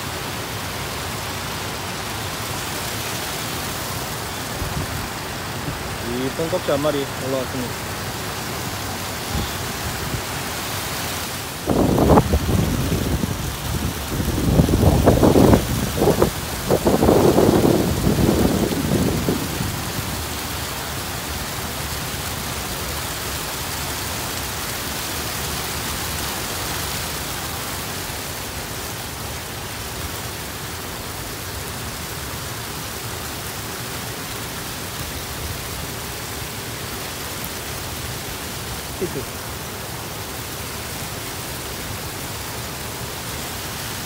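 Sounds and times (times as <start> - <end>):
water rushing over a weir: 0.0 - 44.0.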